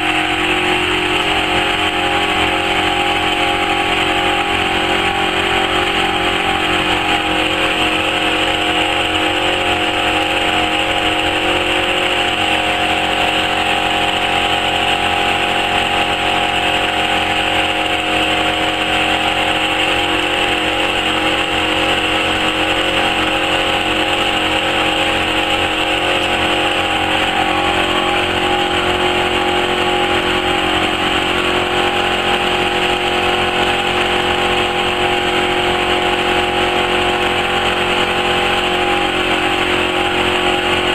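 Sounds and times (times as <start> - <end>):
machine motor hum and whine: 0.0 - 40.9.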